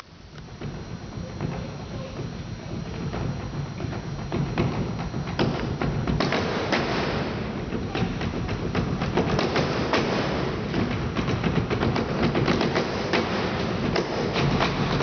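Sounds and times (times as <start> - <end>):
wooden staffs beating on stage: 0.6 - 15.0.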